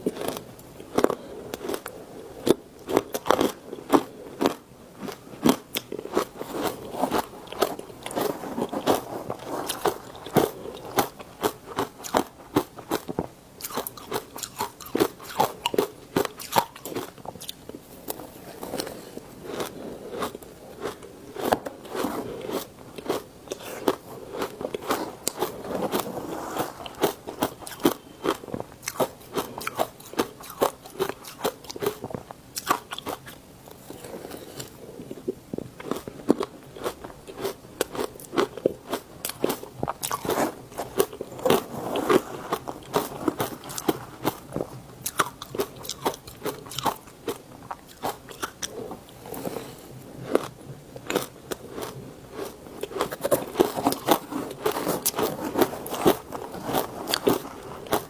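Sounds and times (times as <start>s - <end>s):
ice crunching while chewed: 0.0s - 58.0s.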